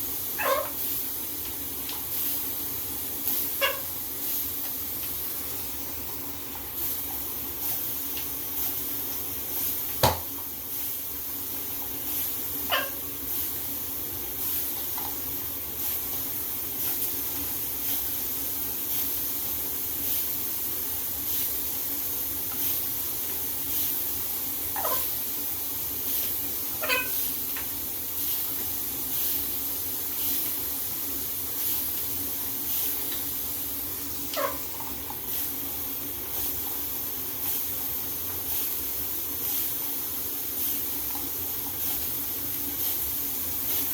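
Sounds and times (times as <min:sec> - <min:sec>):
shower water spraying: 0:00.0 - 0:43.9.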